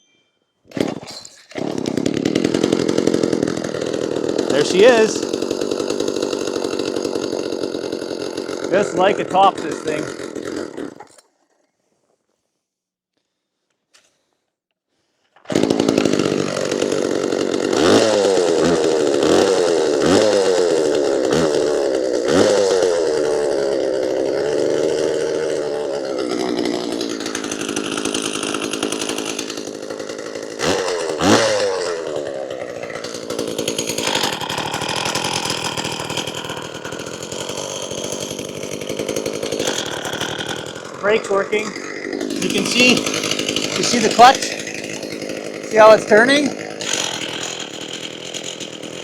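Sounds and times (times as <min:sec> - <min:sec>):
chainsaw revving: 0:00.7 - 0:11.4, 0:15.4 - 0:49.0.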